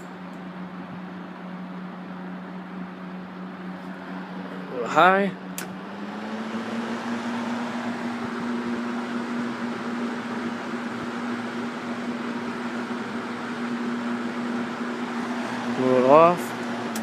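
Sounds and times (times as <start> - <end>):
box fan motor hum: 0.0 - 17.0.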